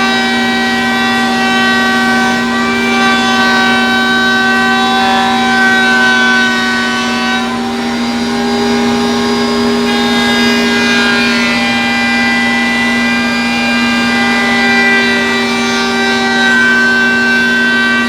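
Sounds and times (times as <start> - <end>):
router motor whine: 0.0 - 18.0.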